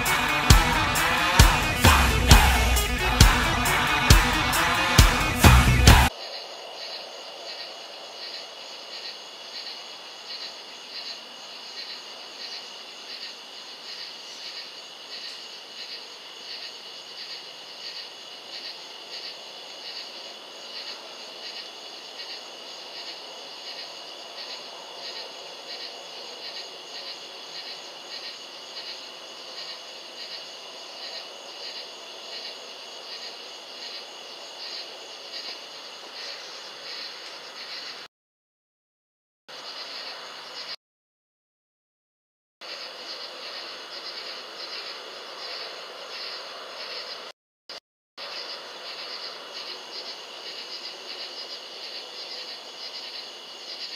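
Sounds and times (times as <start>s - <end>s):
night insects chirping: 0.0s - 38.1s, 39.5s - 40.8s, 42.6s - 47.3s, 48.2s - 53.9s.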